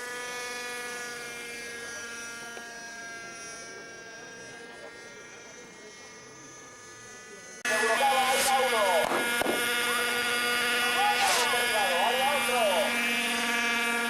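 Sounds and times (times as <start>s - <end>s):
model aircraft engine whine: 0.0s - 14.0s.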